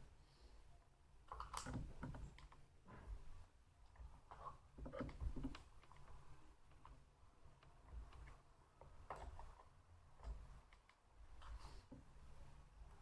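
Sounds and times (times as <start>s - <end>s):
faint clicks and light knocks: 1.3s - 12.2s.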